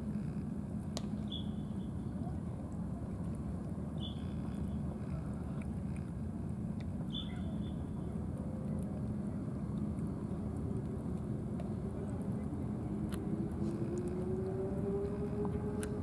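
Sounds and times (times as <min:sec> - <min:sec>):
faint engine hum: 0:00.0 - 0:16.0
low outdoor rumble: 0:00.0 - 0:16.0.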